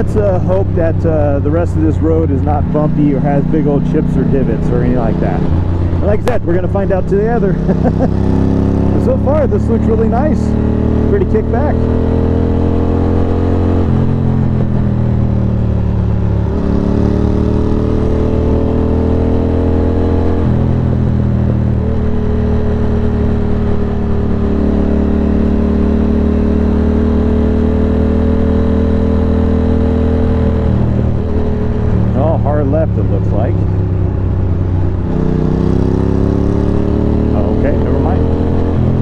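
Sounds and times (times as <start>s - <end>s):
motorcycle engine cruising: 0.0s - 39.0s.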